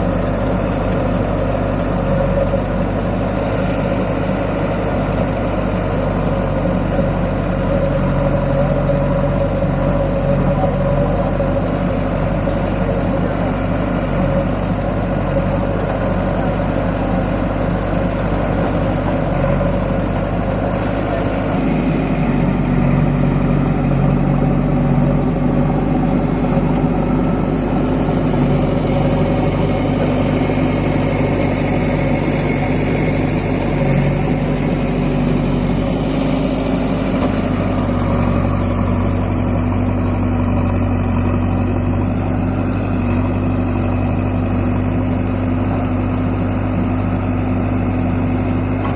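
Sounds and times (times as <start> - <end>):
diesel tractor engine running: 0.0 - 48.9.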